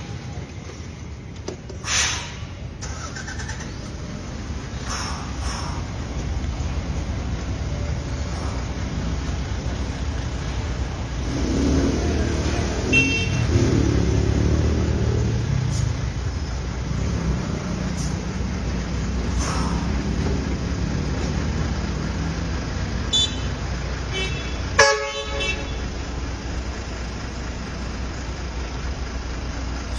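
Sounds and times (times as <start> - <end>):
truck engine rumbling under load: 0.0 - 29.9.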